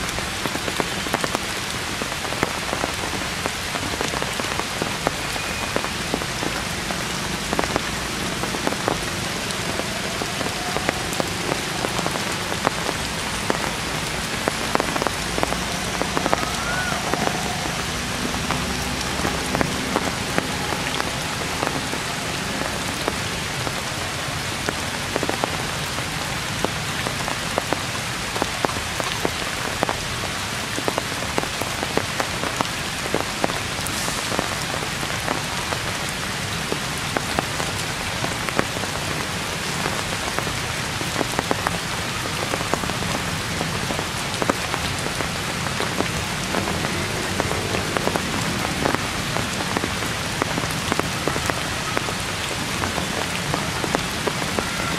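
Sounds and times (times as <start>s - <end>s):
heavy rain on leaves: 0.0s - 54.9s.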